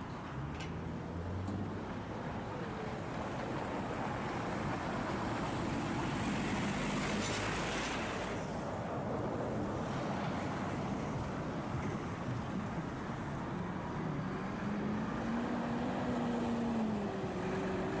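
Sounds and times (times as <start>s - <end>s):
traffic rushing: 0.0s - 18.0s.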